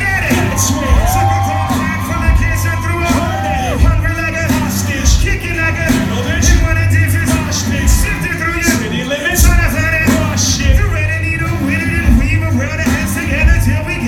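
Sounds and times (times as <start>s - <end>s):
drum beat: 0.0s - 14.0s
heavy bass: 0.0s - 14.0s
voices singing or shouting: 0.0s - 14.0s.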